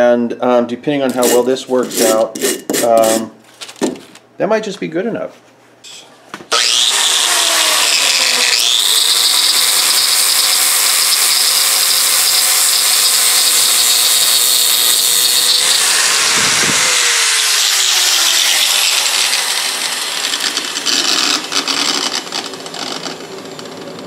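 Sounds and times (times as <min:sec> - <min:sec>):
angle grinder grinding metal: 0:01.1 - 0:03.3, 0:06.5 - 0:24.0.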